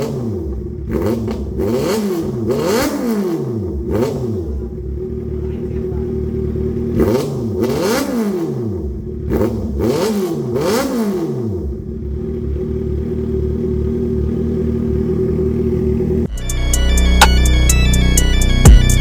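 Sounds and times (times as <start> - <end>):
motorcycle engine revving and idling: 0.0 - 16.3.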